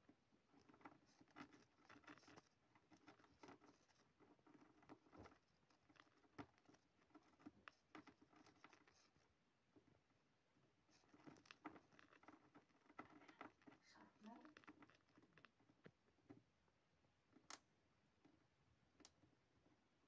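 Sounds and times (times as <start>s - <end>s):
mouse scratching and rustling: 0.0s - 16.5s.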